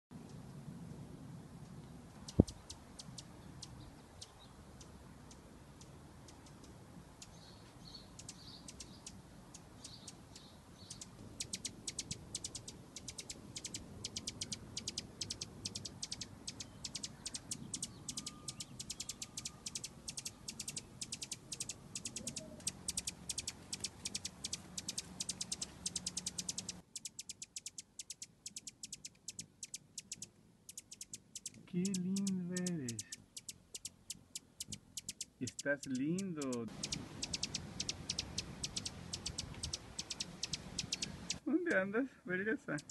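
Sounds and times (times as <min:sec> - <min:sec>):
hummingbird chipping: 0:02.2 - 0:41.9, 0:42.6 - 0:42.9.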